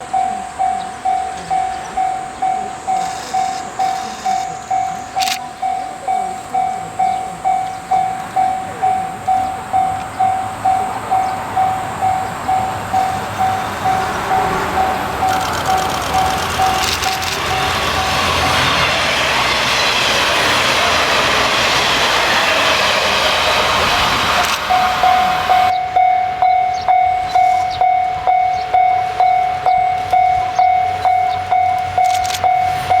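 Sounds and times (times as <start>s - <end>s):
level-crossing bell ringing: 0.0s - 18.7s, 24.6s - 33.0s
broad noise: 0.0s - 33.0s.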